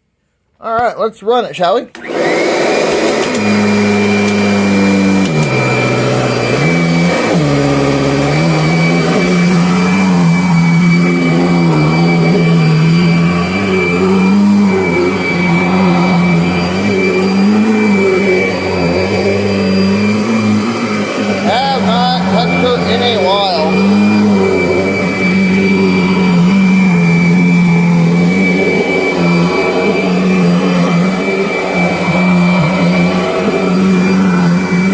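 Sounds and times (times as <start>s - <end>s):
vacuum cleaner running: 1.9s - 34.9s.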